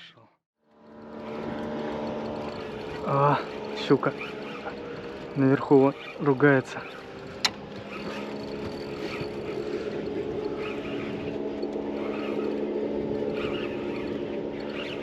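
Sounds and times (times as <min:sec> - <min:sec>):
boat motor droning: 0:00.6 - 0:15.0.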